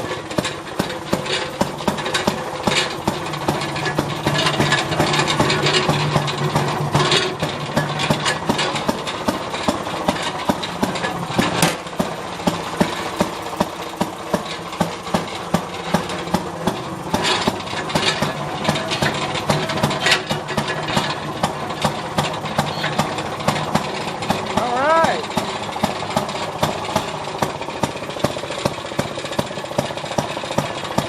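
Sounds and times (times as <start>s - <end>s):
small gas engine running: 0.0s - 31.0s.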